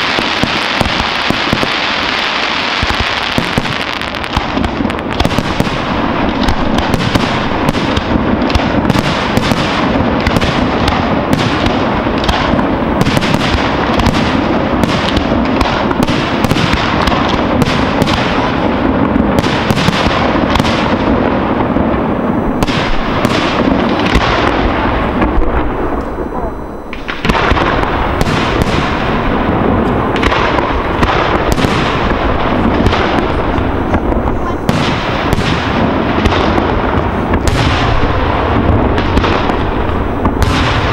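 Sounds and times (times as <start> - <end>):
fireworks bangs and crackle: 0.0 - 40.9.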